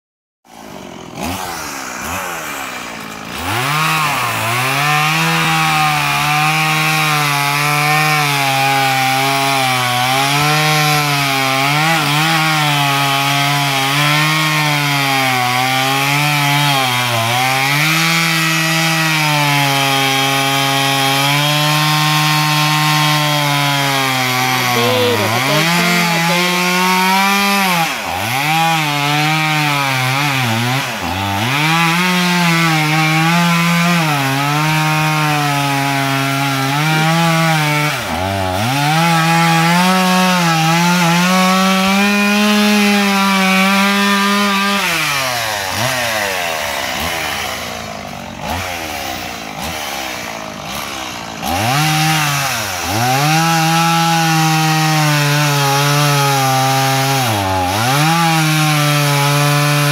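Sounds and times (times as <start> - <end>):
chainsaw cutting wood: 0.5 - 59.9.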